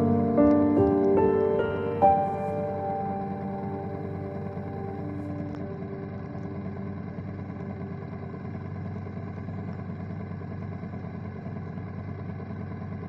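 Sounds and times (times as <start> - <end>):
motorcycle engine drone: 0.0 - 13.0.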